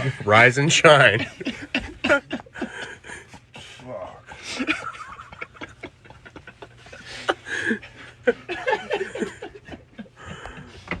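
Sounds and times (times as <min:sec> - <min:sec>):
people snickering and laughing: 0:01.1 - 0:10.9.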